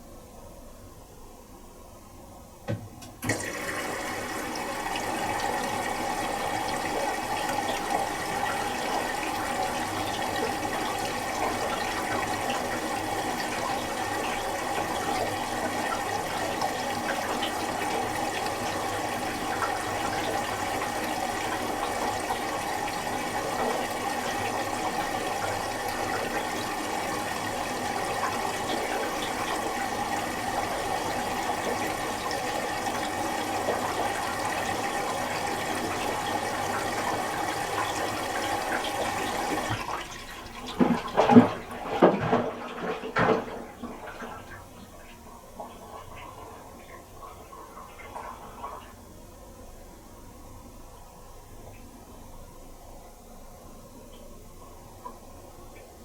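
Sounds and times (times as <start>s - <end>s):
water rushing into drum: 2.7s - 49.1s.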